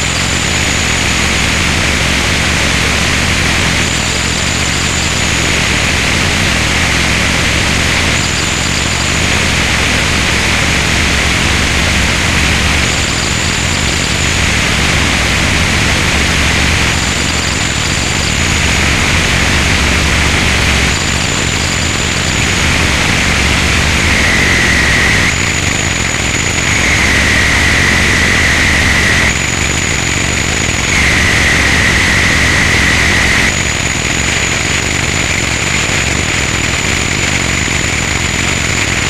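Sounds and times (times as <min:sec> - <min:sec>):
harsh static noise music: 0:00.0 - 0:39.0
thin high whine: 0:00.0 - 0:39.0.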